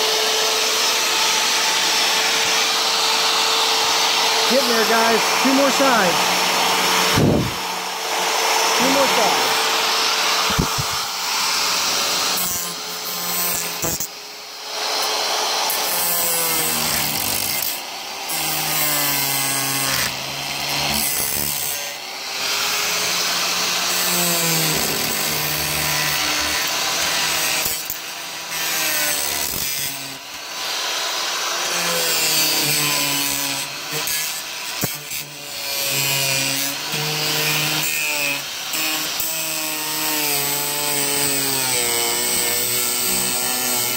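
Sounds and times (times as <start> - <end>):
power saw cutting roof panel: 0.0 - 43.9.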